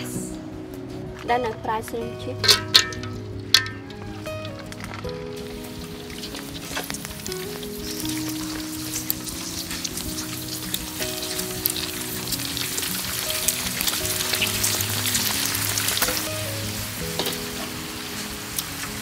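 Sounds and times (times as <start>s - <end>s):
soft background music: 0.0s - 19.0s
crackers deep-frying in oil: 2.4s - 19.0s.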